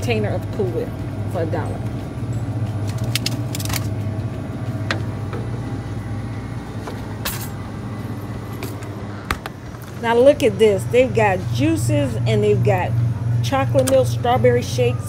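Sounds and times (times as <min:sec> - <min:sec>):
freezer cases humming: 0:00.0 - 0:15.0.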